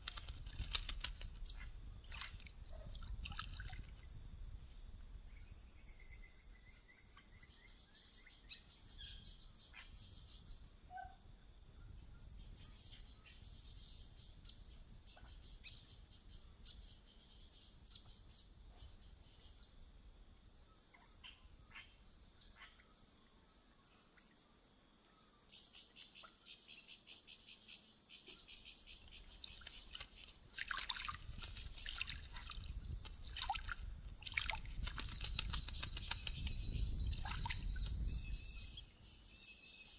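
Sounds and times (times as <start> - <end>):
wild birds chirping: 0.0 - 39.9.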